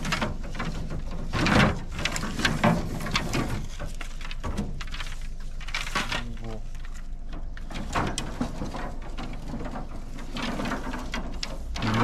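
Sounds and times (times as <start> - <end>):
dry bamboo leaves rustling: 0.0 - 12.0.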